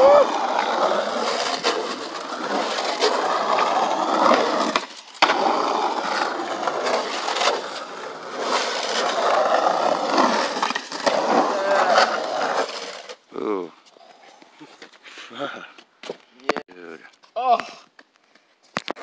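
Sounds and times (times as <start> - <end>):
skateboard wheels on concrete: 0.0 - 16.6.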